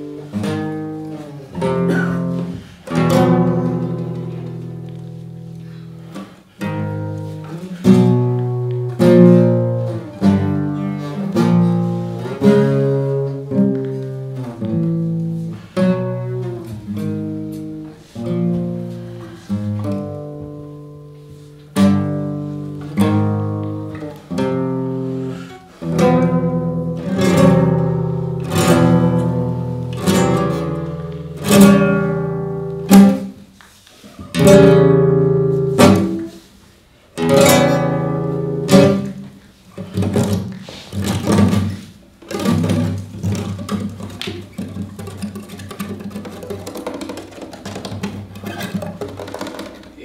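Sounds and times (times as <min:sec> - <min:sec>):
acoustic guitar strummed chords: 0:00.0 - 0:33.5, 0:34.2 - 0:36.6, 0:37.2 - 0:47.1.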